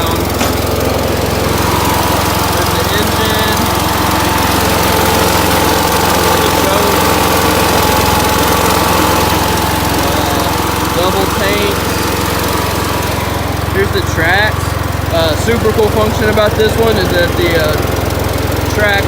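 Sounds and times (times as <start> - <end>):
high whine: 0.0 - 17.8
skid steer engine running: 0.0 - 19.0.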